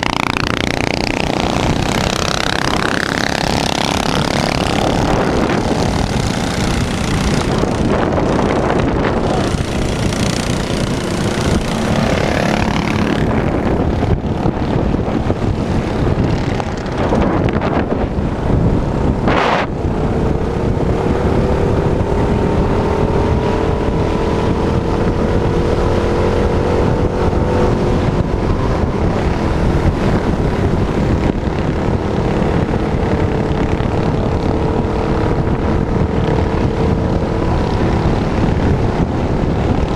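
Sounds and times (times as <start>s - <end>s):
minibike engine running: 0.0s - 39.9s
rushing noise: 0.0s - 39.9s.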